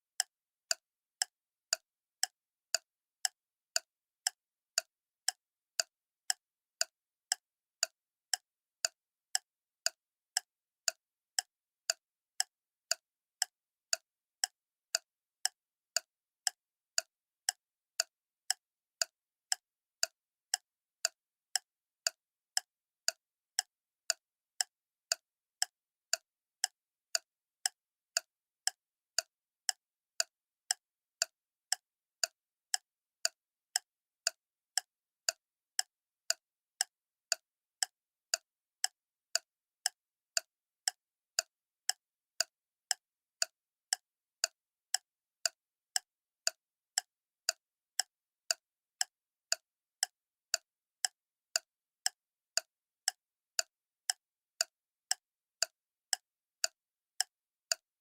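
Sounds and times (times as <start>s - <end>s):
clock ticking: 0.2s - 57.8s.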